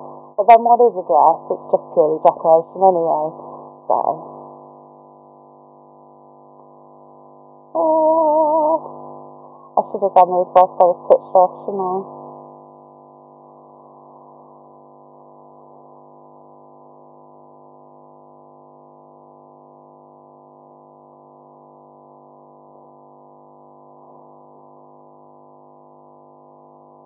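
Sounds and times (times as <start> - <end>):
steady hum of held tones: 0.0 - 27.0.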